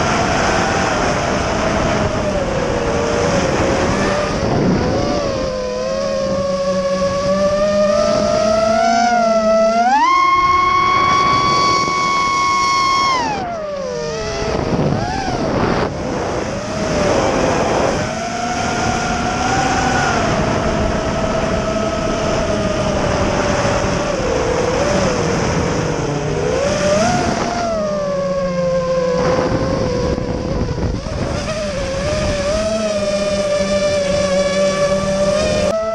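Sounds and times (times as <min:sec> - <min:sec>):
drone motors whining: 0:00.0 - 0:35.9.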